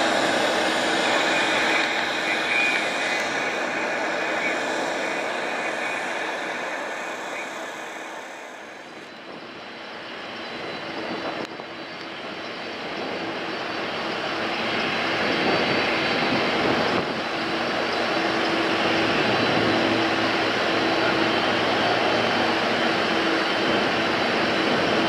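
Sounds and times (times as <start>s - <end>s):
jet engines on runway: 0.0s - 25.0s.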